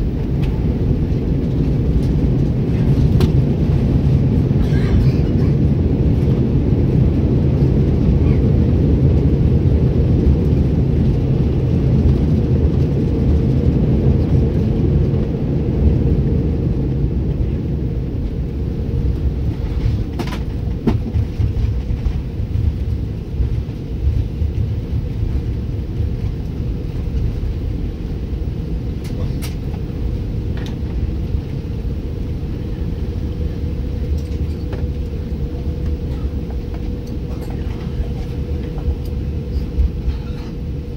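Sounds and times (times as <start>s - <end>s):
aircraft engines and wheels rumbling: 0.0s - 40.9s
steady cabin hum: 0.0s - 40.9s.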